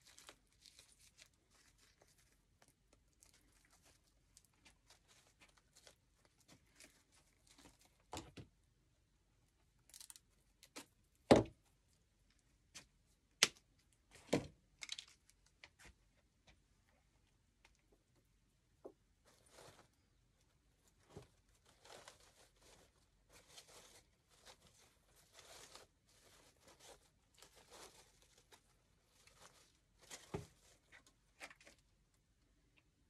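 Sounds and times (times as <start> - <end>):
rustling and crinkling of craft materials: 0.0 - 33.0.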